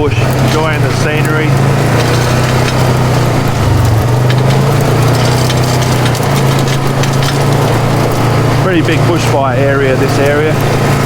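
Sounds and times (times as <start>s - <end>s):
knocks and rattles on rocky track: 0.0s - 11.0s
off-road vehicle engine running: 0.0s - 11.0s.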